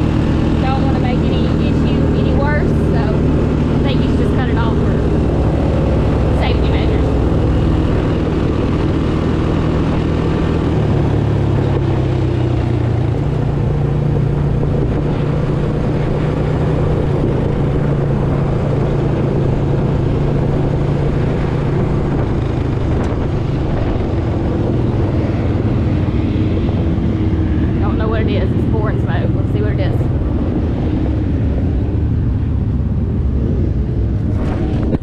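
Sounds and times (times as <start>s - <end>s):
race car engine at speed: 0.0s - 35.0s.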